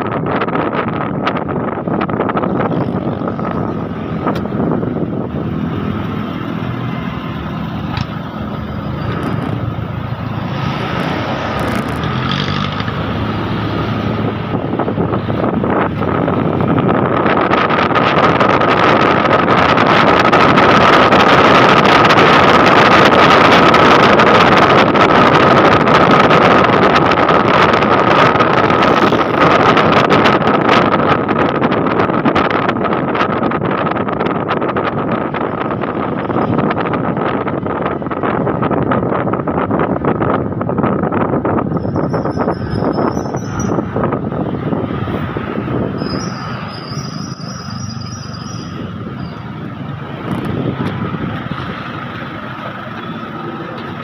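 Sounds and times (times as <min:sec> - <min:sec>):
motorcycle engine drone: 0:00.0 - 0:54.0
wind on microphone: 0:00.0 - 0:54.0.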